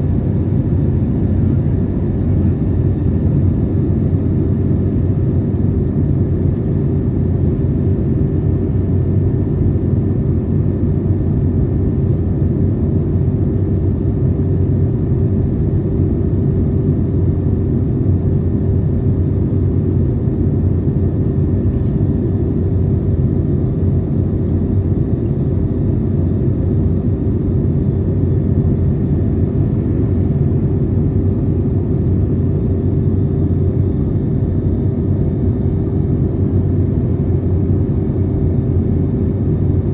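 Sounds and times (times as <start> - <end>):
airliner cabin engine rumble: 0.0 - 39.9
faint constant hum: 0.0 - 39.9.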